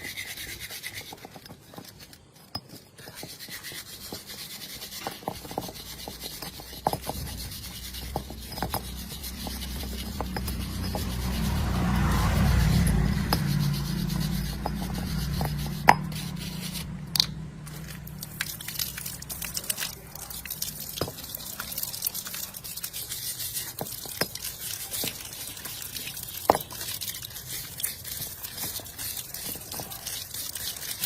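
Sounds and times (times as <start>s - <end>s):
clicks taps and scrapes of hand work: 0.0s - 31.0s.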